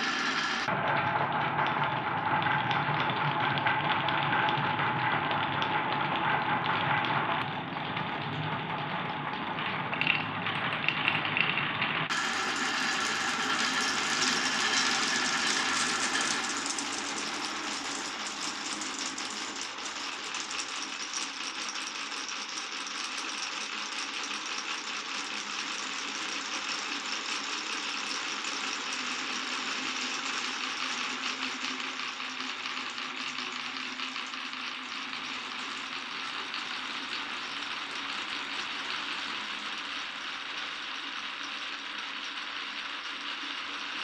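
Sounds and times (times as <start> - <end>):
marbles rattling along tracks: 7.1 - 44.0.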